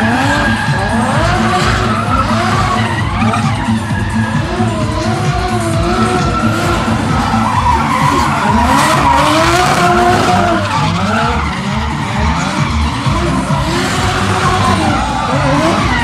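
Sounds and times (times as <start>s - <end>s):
car engines revving: 0.0s - 16.0s
tyres skidding and squealing: 0.0s - 16.0s.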